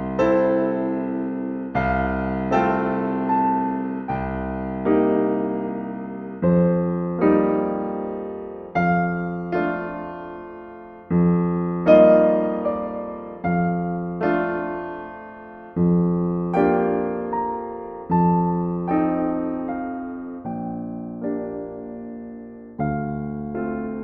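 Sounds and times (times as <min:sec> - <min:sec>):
gentle solo piano: 0:00.0 - 0:24.0.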